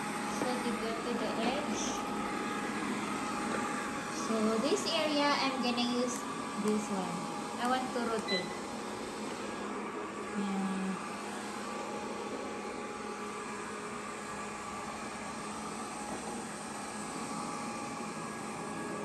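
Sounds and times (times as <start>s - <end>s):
robot vacuum running: 0.0s - 19.0s.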